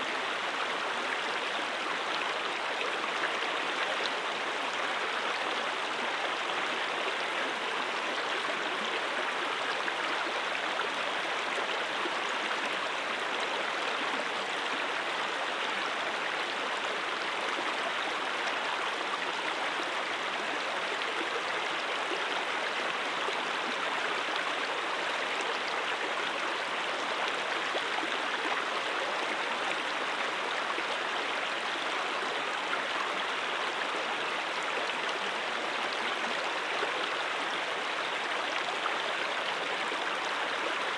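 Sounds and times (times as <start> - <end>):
mountain stream flowing: 0.0 - 40.9.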